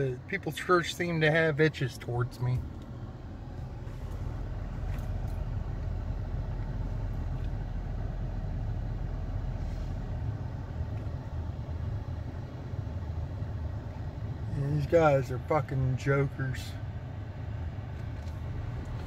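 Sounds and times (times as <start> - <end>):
car engine running inside cabin: 0.0 - 19.0.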